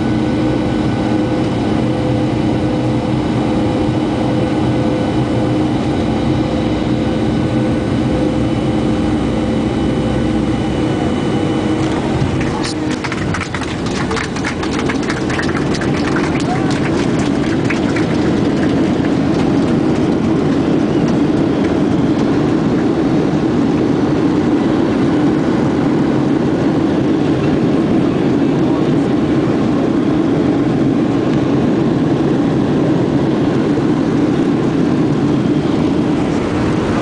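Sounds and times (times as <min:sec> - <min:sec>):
jet engine roar in cabin: 0:00.0 - 0:37.0.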